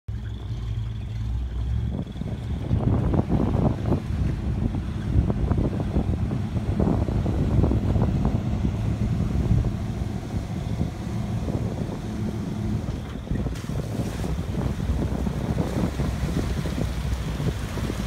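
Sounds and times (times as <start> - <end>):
engine rumbling under load: 0.0 - 18.0
wind buffeting microphone: 0.1 - 18.0.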